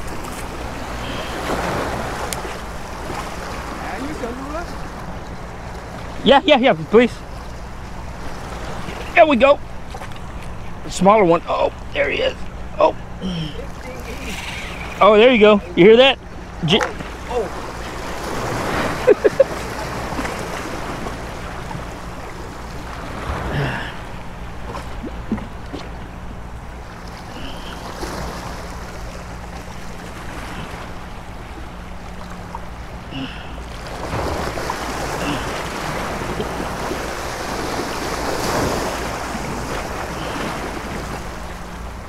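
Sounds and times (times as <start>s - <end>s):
waves splashing against rocks: 0.0s - 7.1s, 13.6s - 26.0s, 26.9s - 42.0s.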